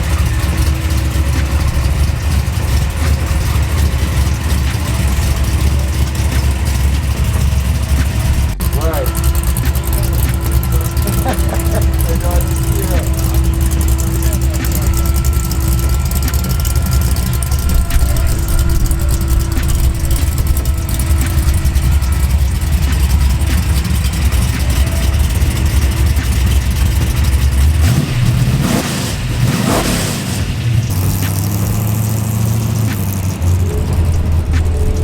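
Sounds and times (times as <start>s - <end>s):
car engine running and revving: 0.0s - 35.0s.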